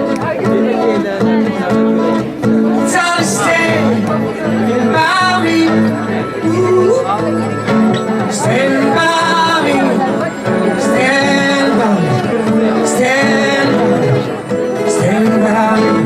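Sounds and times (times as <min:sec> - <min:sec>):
man singing wordless held notes: 0:02.7 - 0:16.0.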